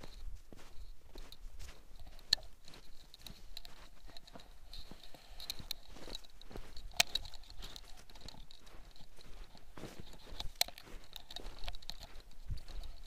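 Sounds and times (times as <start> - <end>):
footsteps crunching in snow: 0.0 - 13.0
sharp clicks: 2.0 - 13.0.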